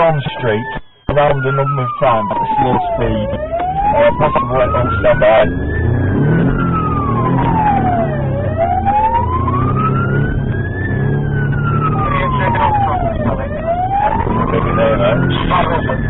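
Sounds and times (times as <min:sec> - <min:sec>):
engine and road noise: 0:00.0 - 0:16.0
police siren wailing: 0:00.0 - 0:16.0.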